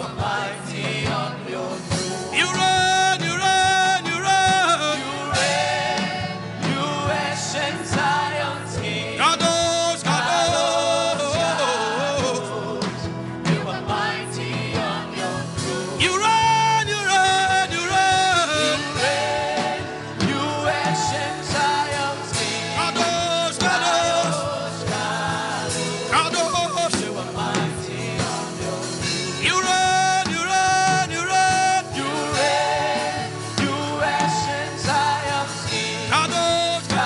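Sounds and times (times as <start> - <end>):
gospel singing with band: 0.0 - 37.0.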